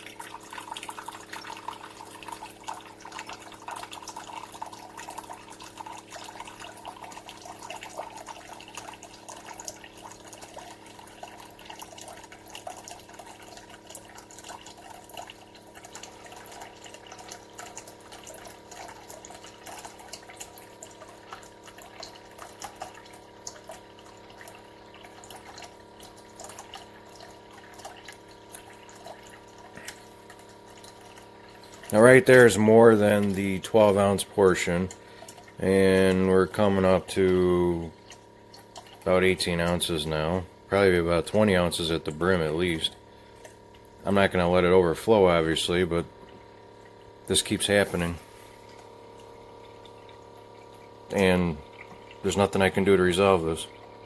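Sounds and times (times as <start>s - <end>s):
steady machine hum: 0.0s - 54.0s
water pouring into a cup: 0.0s - 54.0s.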